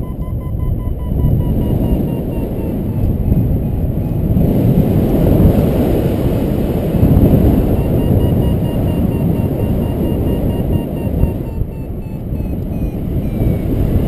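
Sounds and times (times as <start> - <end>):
variometer beeping: 0.0 - 5.6, 7.0 - 14.0
wind buffeting microphone: 0.0 - 14.0.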